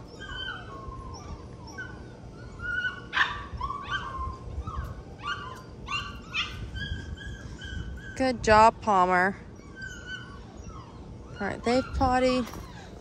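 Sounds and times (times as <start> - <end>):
puppy yelps: 0.0 - 8.2, 9.5 - 13.0
low wind rumble: 0.0 - 13.0
puppies whining and yipping: 0.0 - 13.0.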